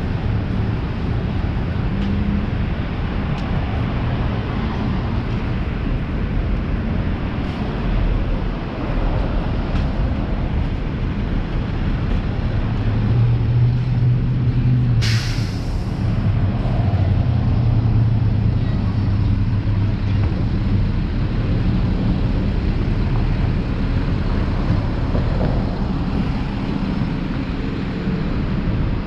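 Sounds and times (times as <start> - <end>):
cars passing: 0.0 - 29.0.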